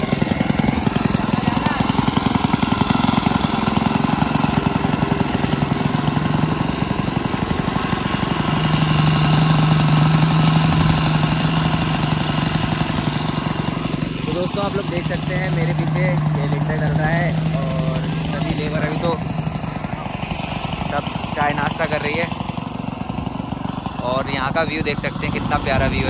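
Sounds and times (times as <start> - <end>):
concrete mixer engine chugging: 0.0 - 26.0.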